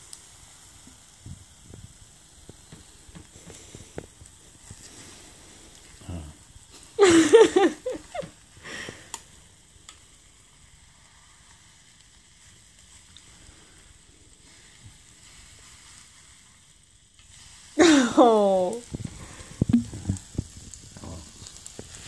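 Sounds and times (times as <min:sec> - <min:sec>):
faint sizzling on hot plate: 0:00.0 - 0:22.0.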